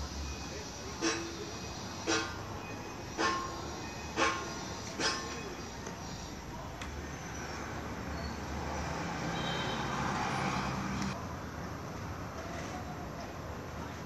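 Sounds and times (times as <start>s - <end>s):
outdoor traffic noise: 0.0s - 14.0s.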